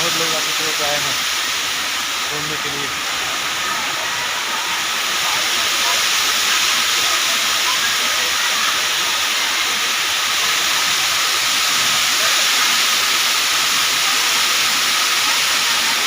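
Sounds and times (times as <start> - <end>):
water pouring down waterfall: 0.0 - 16.0.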